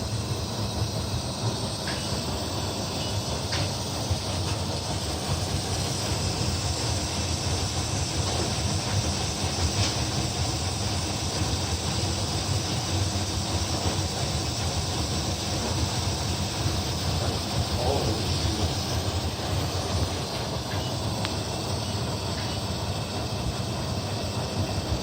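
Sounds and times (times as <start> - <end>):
air conditioner running: 0.0 - 25.0.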